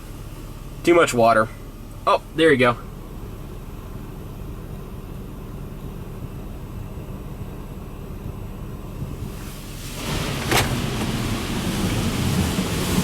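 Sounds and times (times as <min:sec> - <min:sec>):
low machinery hum: 0:00.0 - 0:13.0.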